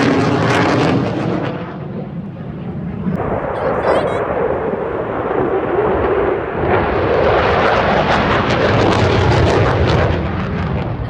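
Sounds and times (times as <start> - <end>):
fighter jet flying past: 0.0 - 11.0.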